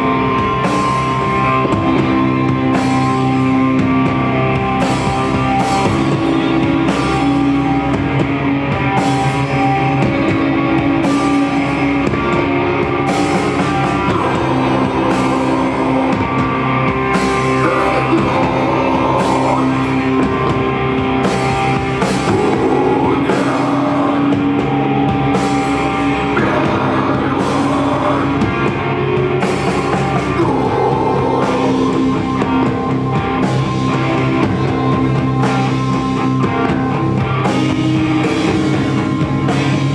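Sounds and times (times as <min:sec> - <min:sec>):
rock band playing live: 0:00.0 - 0:39.9
wavering lead guitar line: 0:00.0 - 0:39.9.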